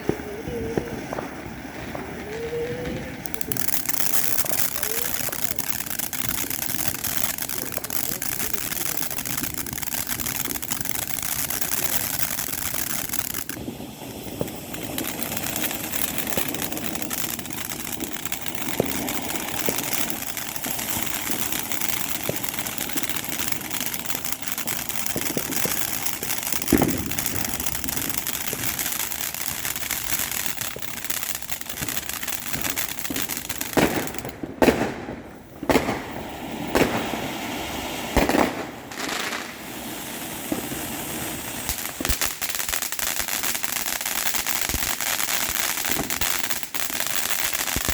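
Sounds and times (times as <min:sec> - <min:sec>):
fireworks hiss: 0:00.0 - 0:47.9
fireworks popping: 0:00.0 - 0:47.9
loud firework bangs: 0:00.0 - 0:47.9.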